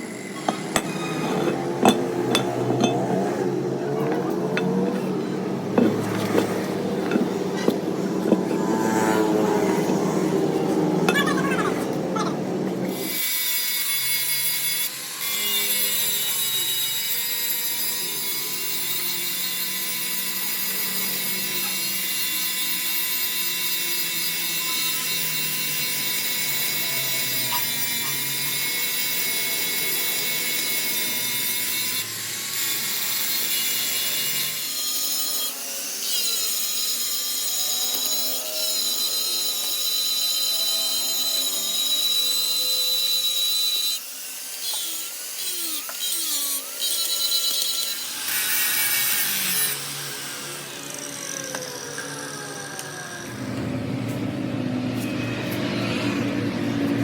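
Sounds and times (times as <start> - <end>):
machine whine working metal: 0.0 - 57.0.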